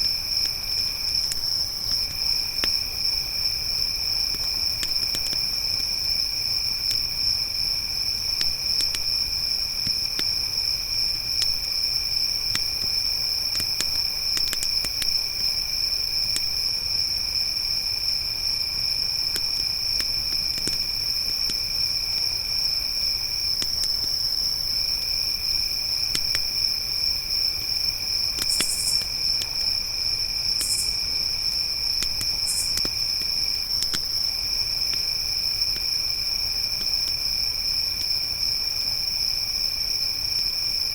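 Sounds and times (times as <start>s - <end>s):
crickets chirping: 0.0s - 40.9s
campfire crackling: 0.2s - 16.7s, 18.8s - 37.1s.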